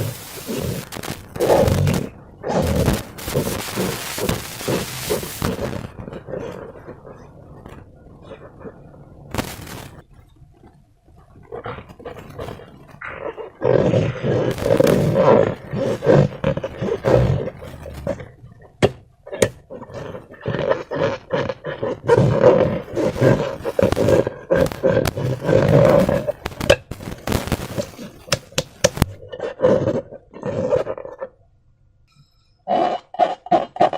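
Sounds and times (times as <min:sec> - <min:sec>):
slime and balloons squelching: 0:00.0 - 0:31.0.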